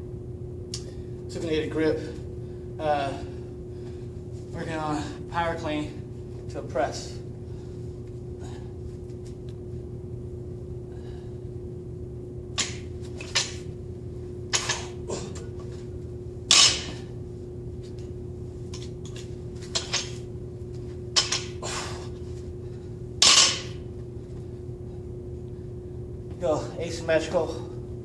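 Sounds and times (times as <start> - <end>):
background hum: 0.0 - 28.0.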